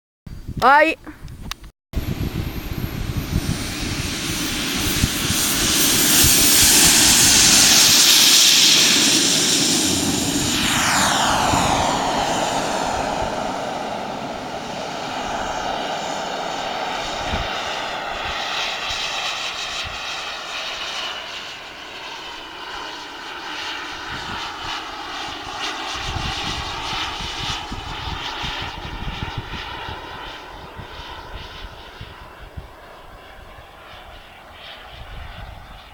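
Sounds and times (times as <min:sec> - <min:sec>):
wind buffeting microphone: 0:00.3 - 0:20.8, 0:23.9 - 0:35.9
model jet turbine whining: 0:02.0 - 0:35.9.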